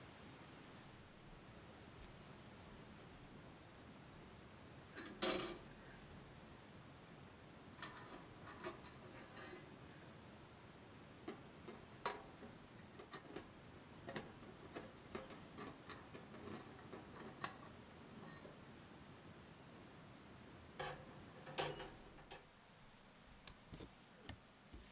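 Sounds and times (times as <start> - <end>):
wood crackling in stove: 0.0 - 24.9.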